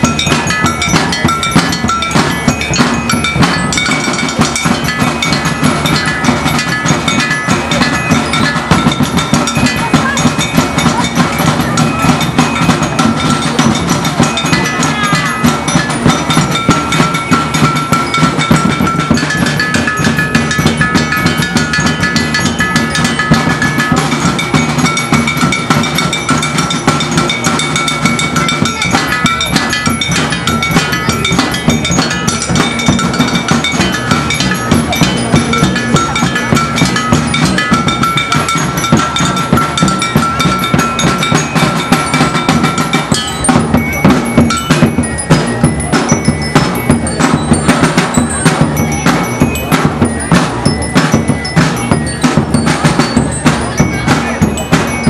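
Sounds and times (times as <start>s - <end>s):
fast drumming: 0.0s - 55.0s
high ringing notes: 0.0s - 55.0s.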